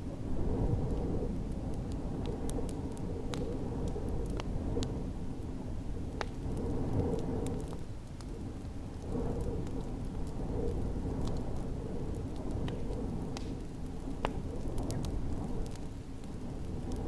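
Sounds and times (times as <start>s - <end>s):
low rumble of wind: 0.0s - 17.0s
wood fire crackling and popping: 0.0s - 17.0s.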